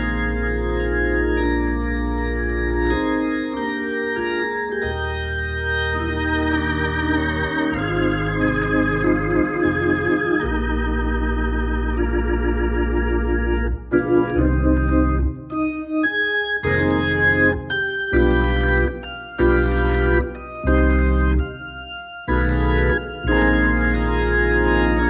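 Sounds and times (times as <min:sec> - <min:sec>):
organ chords with wavering: 0:00.0 - 0:25.0.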